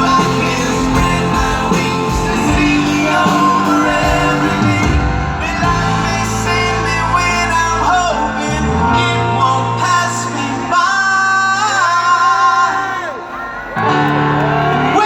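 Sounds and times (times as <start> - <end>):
live rock band: 0.0 - 15.0
person singing: 0.0 - 15.0.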